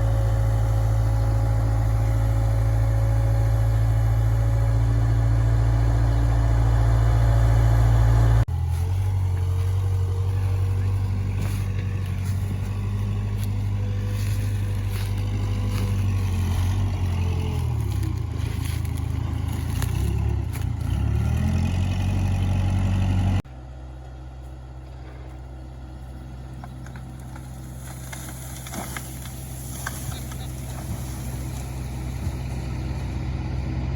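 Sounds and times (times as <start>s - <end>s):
diesel engine running hard: 0.0s - 33.9s.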